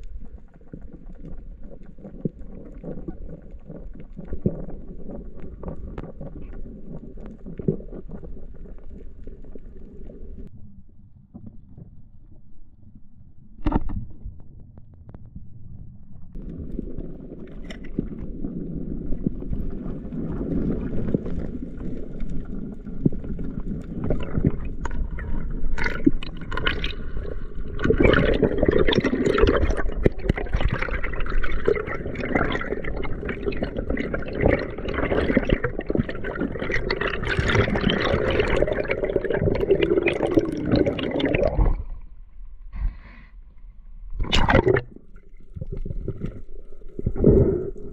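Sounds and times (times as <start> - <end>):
water sloshing and gurgling: 0.0 - 10.5, 13.6 - 47.9.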